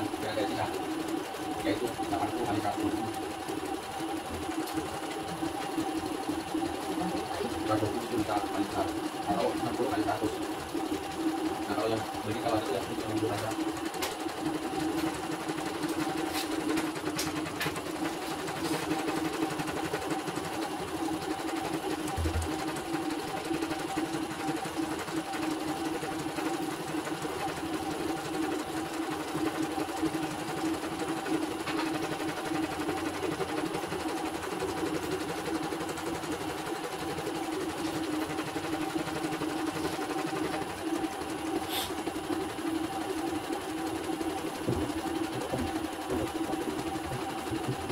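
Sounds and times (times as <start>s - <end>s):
embroidery machine stitching: 0.0s - 47.9s.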